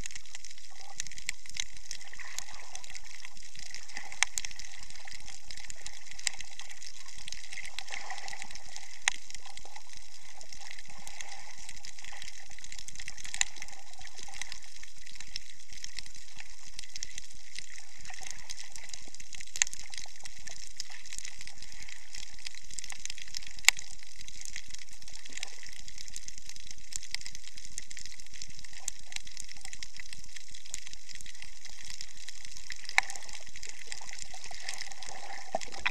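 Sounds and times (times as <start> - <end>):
underwater hiss: 0.0 - 24.5, 31.3 - 35.9
sharp underwater clicks: 0.0 - 35.9.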